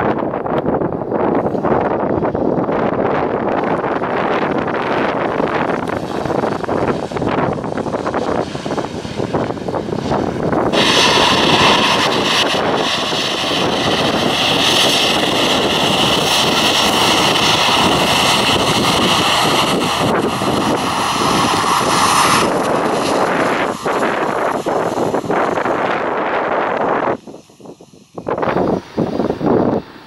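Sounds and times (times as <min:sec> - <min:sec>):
wind buffeting microphone: 0:00.0 - 0:30.0
jet engines whining: 0:00.8 - 0:30.0.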